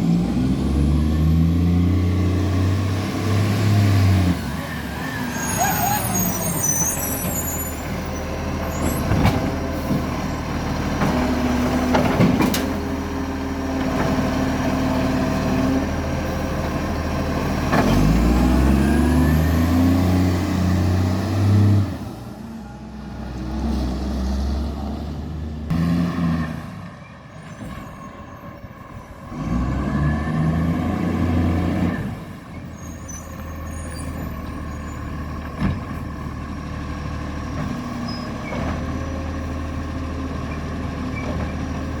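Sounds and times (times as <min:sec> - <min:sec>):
diesel truck engine revving: 0:00.0 - 0:27.4, 0:29.2 - 0:42.0.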